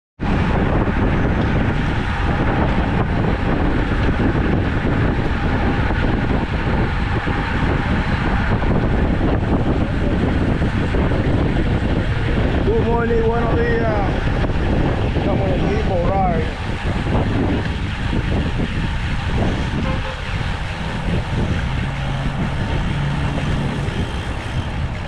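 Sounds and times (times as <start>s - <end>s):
wind buffeting microphone: 0.2s - 25.0s.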